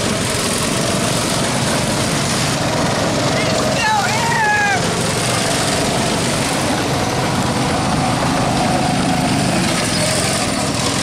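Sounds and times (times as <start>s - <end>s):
engine running: 0.0s - 11.0s
loud rushing noise: 0.0s - 11.0s.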